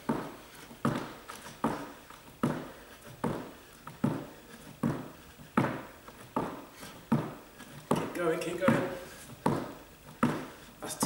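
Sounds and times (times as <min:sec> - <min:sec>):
trainers thudding on wooden floor: 0:00.0 - 0:10.6.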